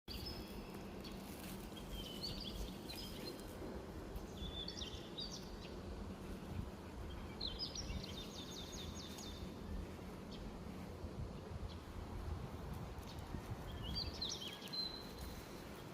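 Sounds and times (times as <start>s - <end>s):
songbirds chirping and trilling: 0.1s - 15.9s.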